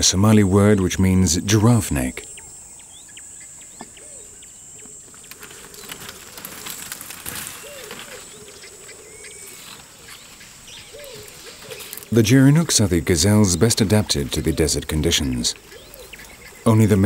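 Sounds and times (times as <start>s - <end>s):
bird chirps and calls: 0.7s - 17.0s
rapid low bird trill: 1.8s - 17.0s
high insect hiss: 1.9s - 17.0s.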